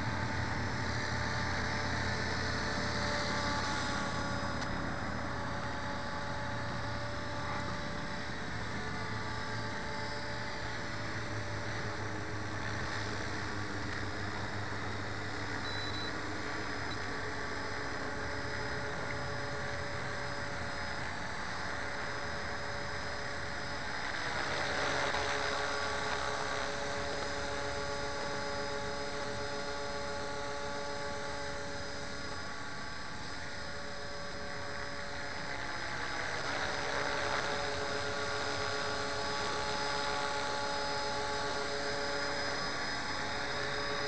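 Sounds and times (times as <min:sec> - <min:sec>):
rc helicopter whine: 0:00.0 - 0:44.0.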